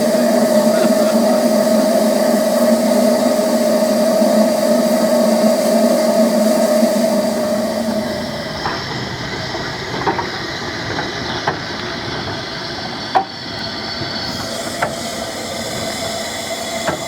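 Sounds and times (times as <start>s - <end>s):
steam locomotive letting off steam: 0.0s - 17.0s.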